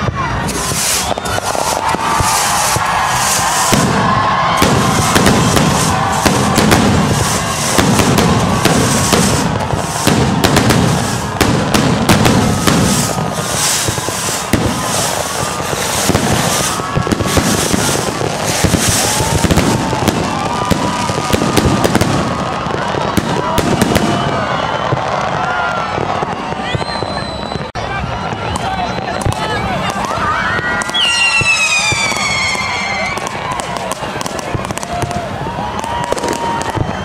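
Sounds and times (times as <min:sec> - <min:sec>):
fireworks bangs and crackling: 0:00.0 - 0:37.0
fireworks whistling: 0:00.0 - 0:37.0.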